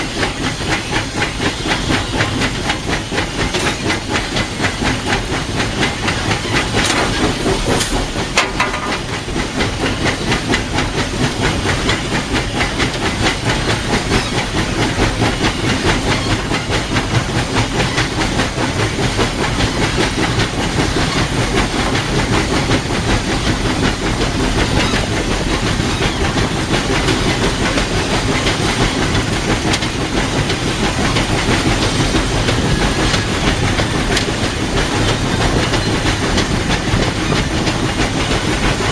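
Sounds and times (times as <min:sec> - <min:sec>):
steam hissing: 0:00.0 - 0:38.9
train wheels clattering on rails: 0:00.0 - 0:38.9.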